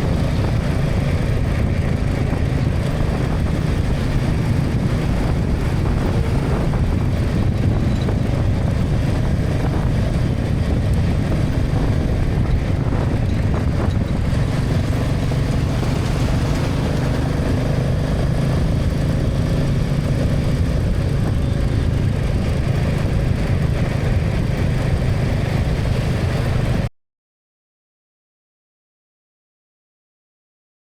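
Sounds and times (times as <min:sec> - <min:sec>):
motorcycle engine: 0:00.0 - 0:26.9.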